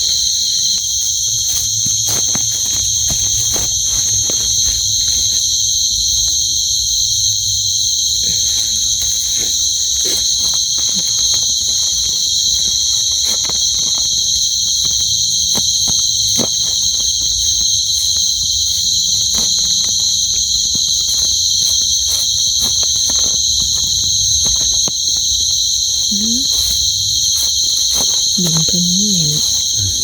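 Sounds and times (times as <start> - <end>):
faint clicks and rustles: 0.0 - 30.0
night insects chorus: 0.0 - 30.0.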